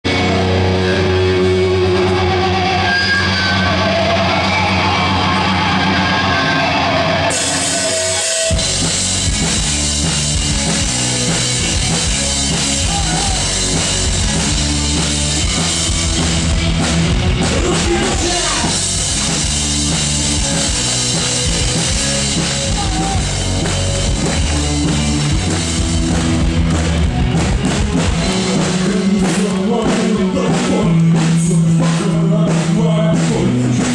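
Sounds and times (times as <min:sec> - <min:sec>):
heavy rock band playing: 0:00.0 - 0:33.9.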